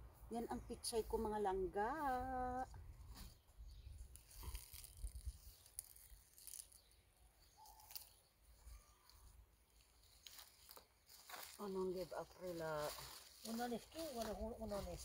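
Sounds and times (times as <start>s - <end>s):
rustles: 0.1s - 15.0s.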